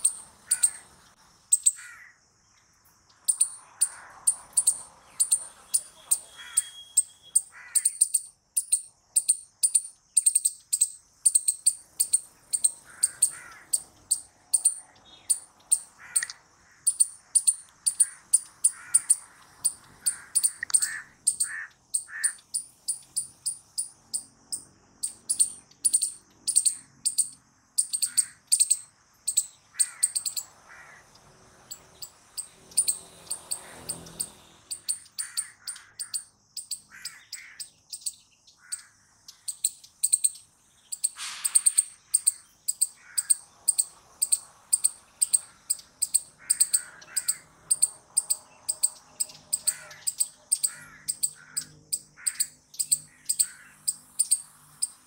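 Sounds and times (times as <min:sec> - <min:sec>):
squirrels chirping: 0:00.0 - 0:02.1, 0:02.7 - 0:55.0.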